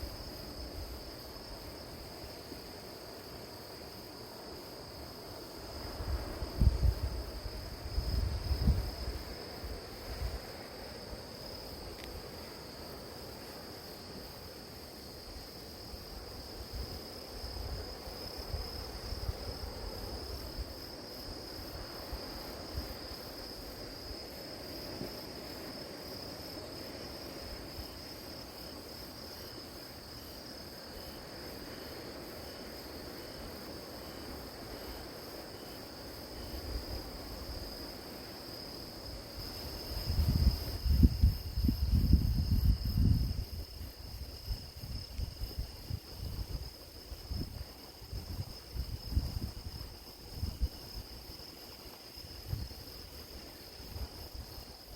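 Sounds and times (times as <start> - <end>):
crickets chirring: 0.0 - 54.9.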